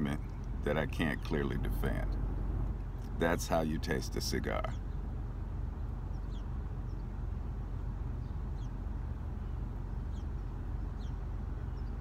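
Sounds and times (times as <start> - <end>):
car cabin hum: 0.0 - 12.0
faint bird chirps: 0.1 - 12.0.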